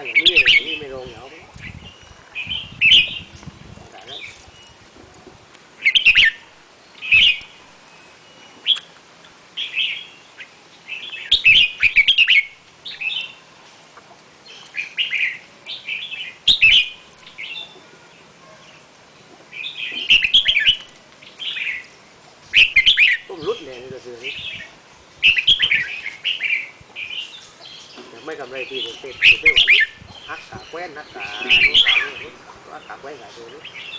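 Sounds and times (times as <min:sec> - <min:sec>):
bird chirping: 0:00.0 - 0:05.1, 0:05.8 - 0:33.9.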